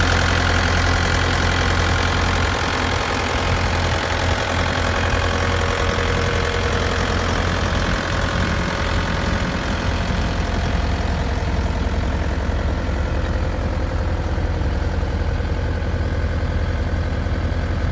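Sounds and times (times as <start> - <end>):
diesel engine running steadily: 0.0 - 17.9.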